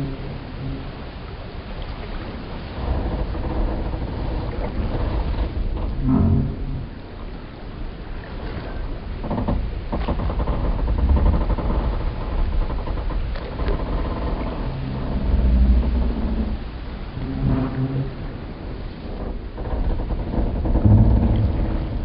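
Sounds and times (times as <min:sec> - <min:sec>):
water lapping: 0:00.0 - 0:22.0
wooden boat timbers creaking: 0:02.6 - 0:22.0.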